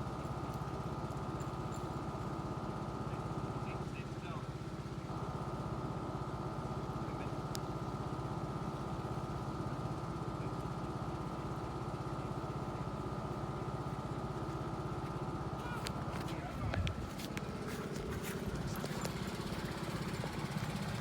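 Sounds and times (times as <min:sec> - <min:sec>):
riding lawn mower engine: 0:00.0 - 0:21.0.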